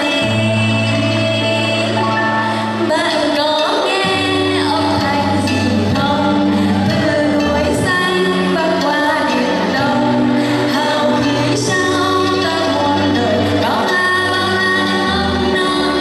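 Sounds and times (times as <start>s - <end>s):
accompaniment music with bass notes: 0.0s - 16.0s
girl singing into microphone: 0.0s - 16.0s.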